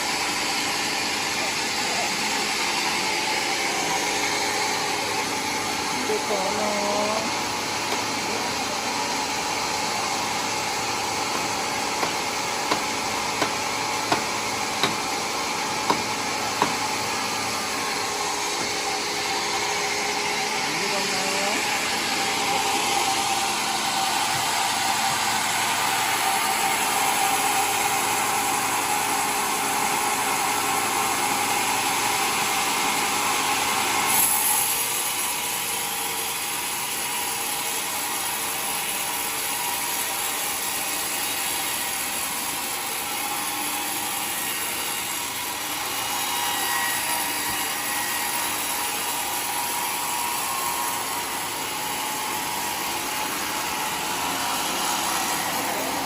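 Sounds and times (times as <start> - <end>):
sawmill blade cutting log: 0.0 - 56.0.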